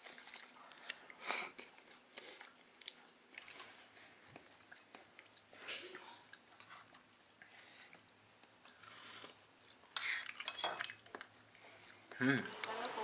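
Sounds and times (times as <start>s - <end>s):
close-up chewing of noodles: 0.0s - 12.8s.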